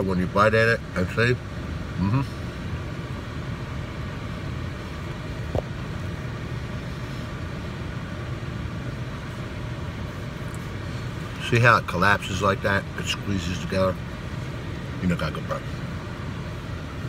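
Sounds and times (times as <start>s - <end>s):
car idling hum: 0.0s - 17.0s.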